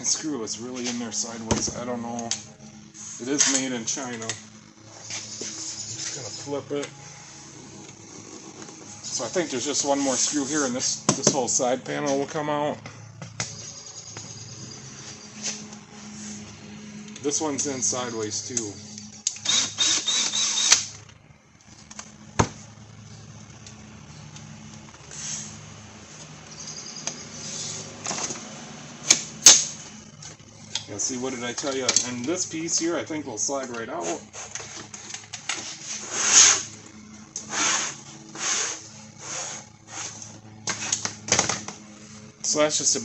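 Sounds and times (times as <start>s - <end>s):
screw scraping whir: 0.0s - 12.3s, 13.4s - 21.1s, 24.3s - 41.2s
steady low hum: 0.0s - 43.0s.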